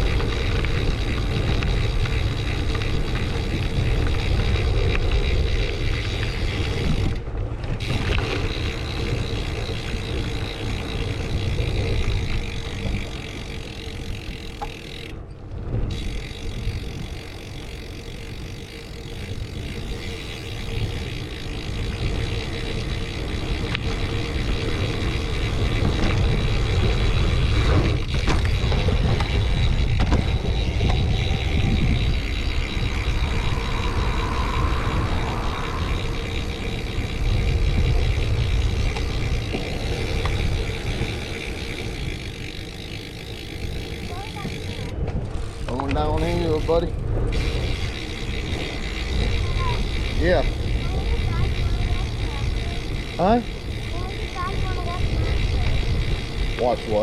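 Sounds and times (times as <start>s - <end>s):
bicycle tyres rushing: 0.0s - 57.0s
wind buffeting microphone: 0.0s - 57.0s.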